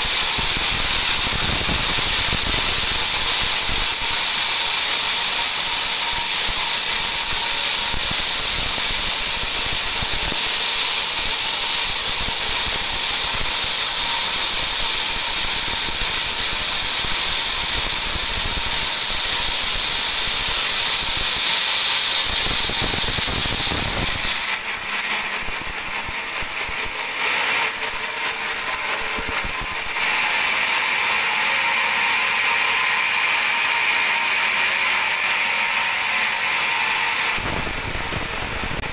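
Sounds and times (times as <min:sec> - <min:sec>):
band saw blade cutting log: 0:00.0 - 0:38.9.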